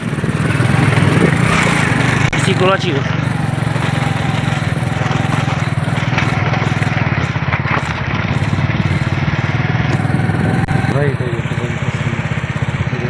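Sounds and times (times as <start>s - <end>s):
small engine puttering: 0.0s - 13.0s.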